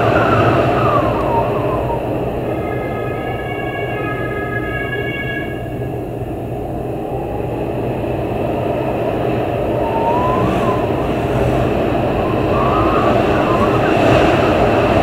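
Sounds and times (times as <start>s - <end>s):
strong gusty wind rushing: 0.0s - 4.2s, 5.5s - 15.0s
faint wind whistle: 0.0s - 15.0s.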